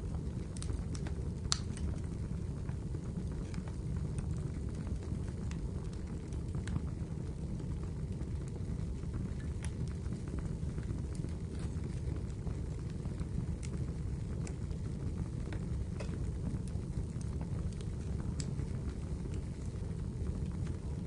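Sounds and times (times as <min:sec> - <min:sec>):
sharp fire pops: 0:00.0 - 0:07.0, 0:09.2 - 0:21.0
wood fire crackling: 0:00.0 - 0:21.0.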